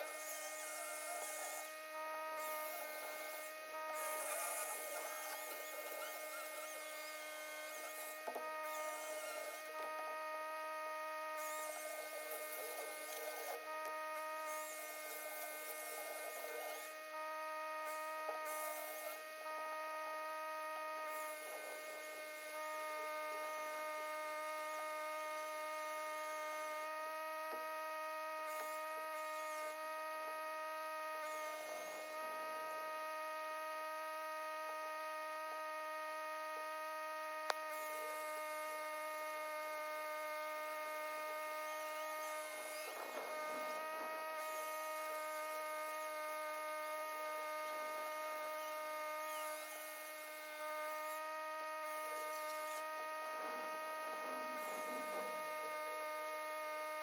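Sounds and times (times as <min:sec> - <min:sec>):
electric chainsaw motor whining: 0:00.0 - 0:57.0.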